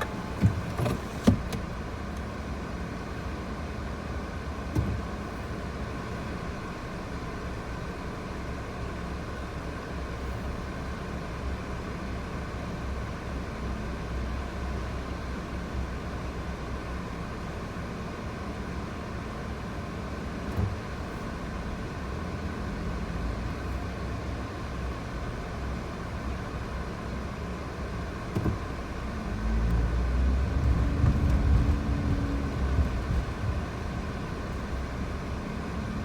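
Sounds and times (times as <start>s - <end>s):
car engine and cabin hum: 0.0s - 36.0s.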